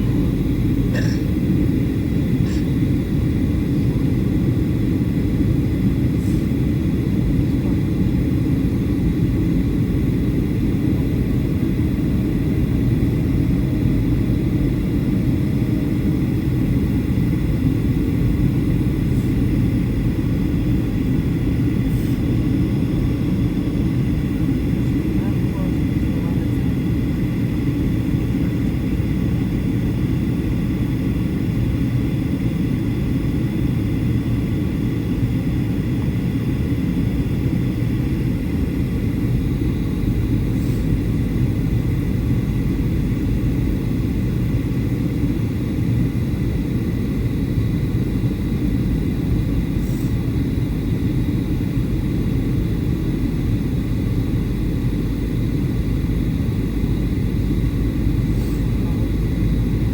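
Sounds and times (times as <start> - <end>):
airflow and jet engine rumble: 0.0 - 59.9.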